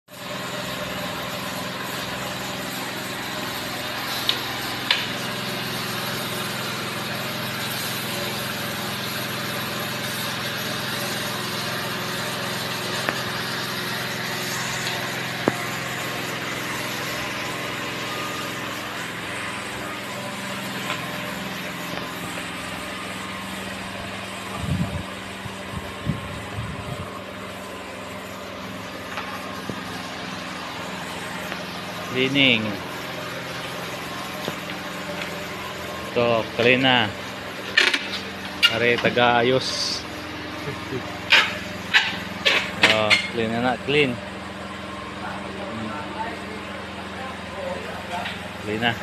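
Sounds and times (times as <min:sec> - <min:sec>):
pressure washer engine running: 0:00.0 - 0:49.0
spray jet hissing on floor: 0:00.1 - 0:26.5, 0:27.1 - 0:42.8.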